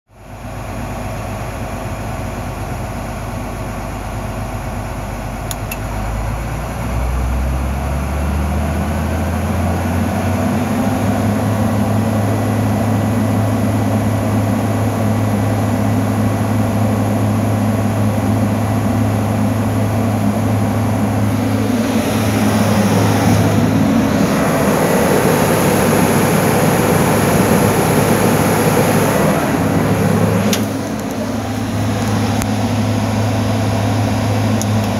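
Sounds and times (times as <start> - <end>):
diesel engine idling and revving: 0.1 - 34.9.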